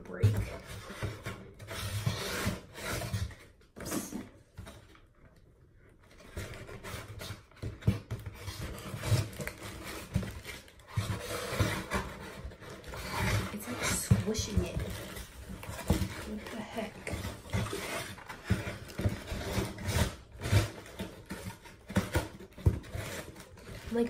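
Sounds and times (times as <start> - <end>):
cardboard packaging rubbing and scraping: 0.0 - 5.1, 5.9 - 24.0.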